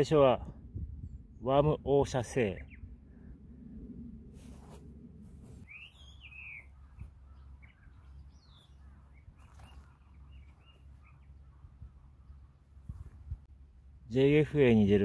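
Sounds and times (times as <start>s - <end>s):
faint birdsong: 0.0s - 4.2s, 5.5s - 15.0s
low steady rumble: 0.0s - 5.7s, 6.7s - 15.0s.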